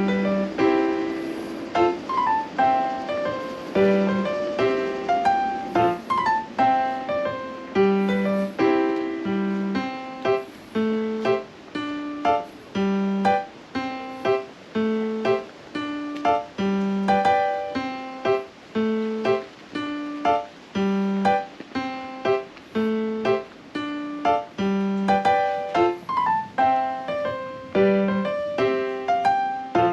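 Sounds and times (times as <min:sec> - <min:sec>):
light piano tune: 0:00.0 - 0:29.9.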